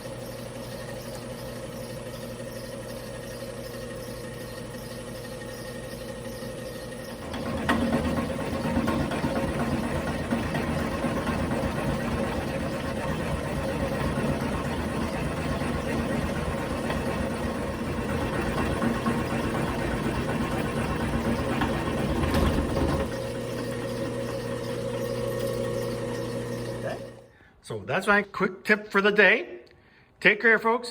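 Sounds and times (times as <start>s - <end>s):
machine humming: 0.0s - 27.3s
milling machine cutting: 0.0s - 27.3s.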